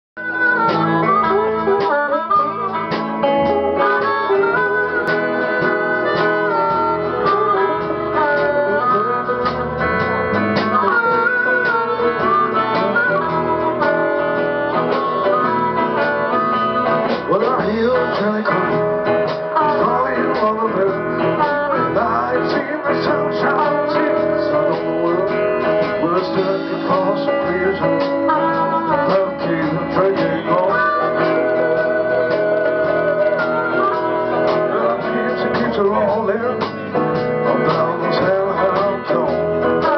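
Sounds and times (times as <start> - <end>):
electric guitar: 0.2 - 39.9
harmonica bending notes: 0.2 - 39.9
resonator guitar: 0.2 - 39.9.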